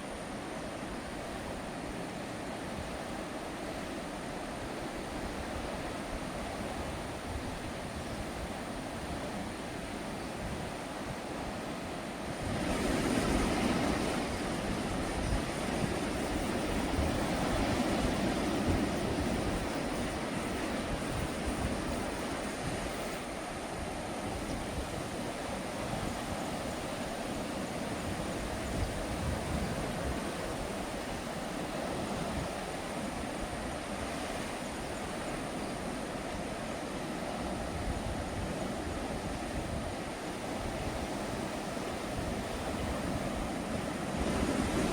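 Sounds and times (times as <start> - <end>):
sea waves against rocky shore: 0.0 - 44.9.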